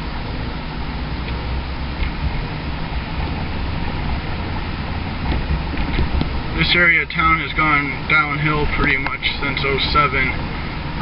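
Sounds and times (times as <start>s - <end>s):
truck engine and tyre rumble: 0.0s - 11.0s.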